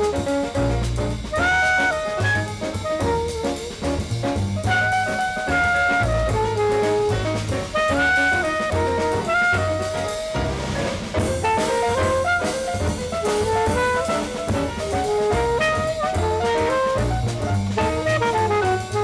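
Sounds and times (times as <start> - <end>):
drum kit: 0.0 - 19.0
horn melody: 0.0 - 19.0
low bass notes: 0.0 - 19.0.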